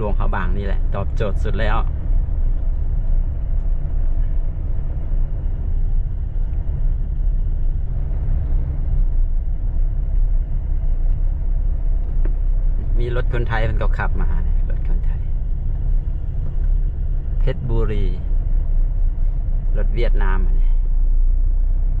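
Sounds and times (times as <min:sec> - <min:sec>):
road and wind noise: 0:00.0 - 0:22.0
vehicle engine running: 0:00.0 - 0:22.0.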